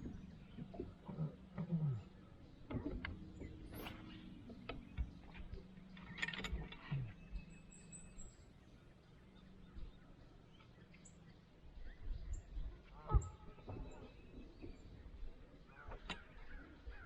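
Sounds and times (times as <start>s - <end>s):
faint mechanical hum: 0.0s - 17.0s.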